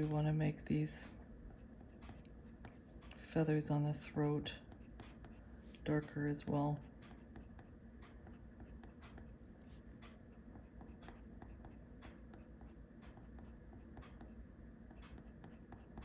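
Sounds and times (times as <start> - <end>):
pencil scratching on paper: 1.5 - 3.0, 4.0 - 16.0.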